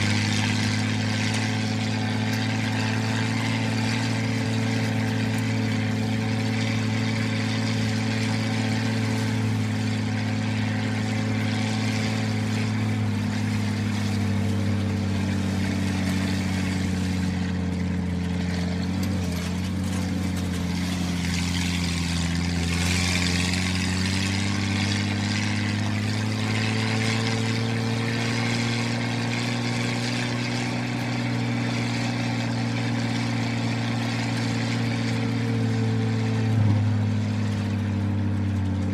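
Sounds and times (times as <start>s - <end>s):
motor droning hum: 0.0s - 38.9s.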